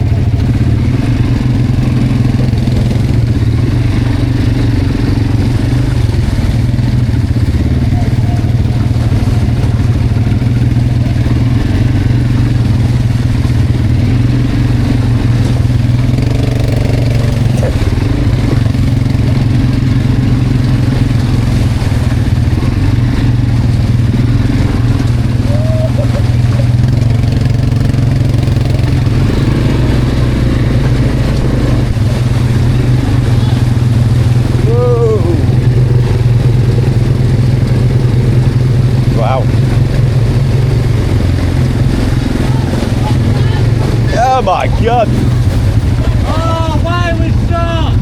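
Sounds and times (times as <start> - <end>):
quad bike engine running: 0.0 - 48.0.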